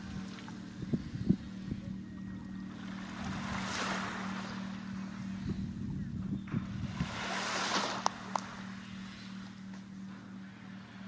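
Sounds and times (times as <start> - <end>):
wind buffeting microphone: 0.0 - 9.0
steady low hum: 0.0 - 11.0.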